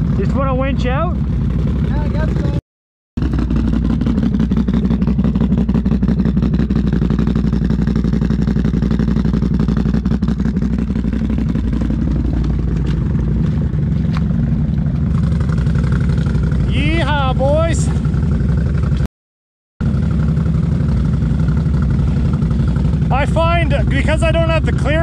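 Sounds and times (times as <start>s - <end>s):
atv engine running: 0.0s - 2.6s, 3.2s - 19.1s, 19.8s - 25.0s.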